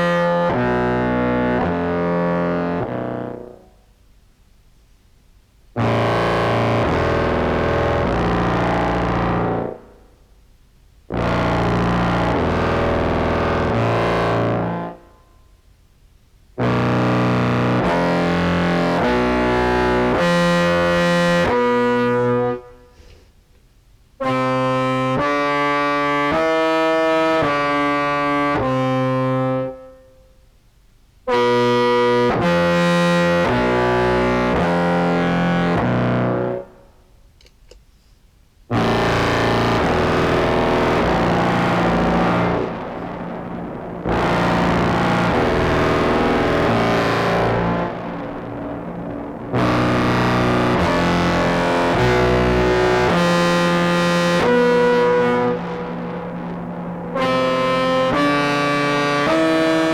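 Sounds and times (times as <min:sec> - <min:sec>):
buzzy fuzz clarinet notes: 0:00.0 - 0:03.8, 0:05.7 - 0:10.1, 0:11.1 - 0:15.2, 0:16.6 - 0:23.2, 0:24.2 - 0:30.5, 0:31.2 - 0:37.0, 0:38.7 - 0:59.9.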